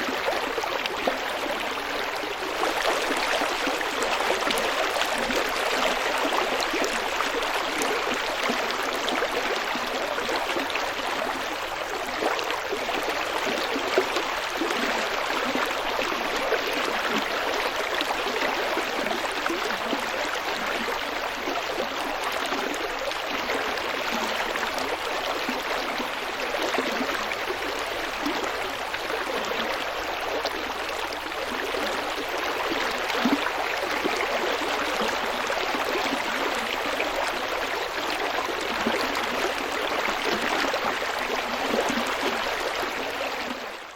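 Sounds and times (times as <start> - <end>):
stream flowing over stones: 0.0 - 43.9.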